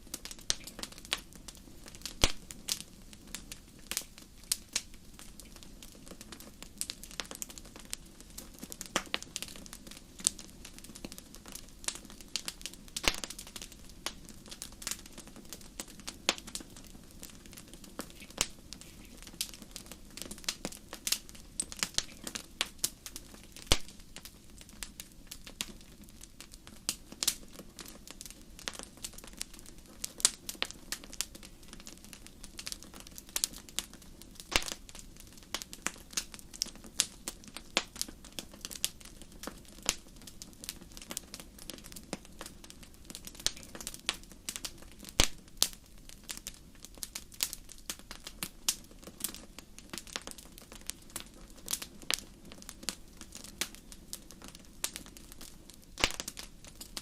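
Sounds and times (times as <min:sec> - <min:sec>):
soft hiss of flame: 0:00.0 - 0:57.0
wood fire crackling and popping: 0:00.0 - 0:57.0.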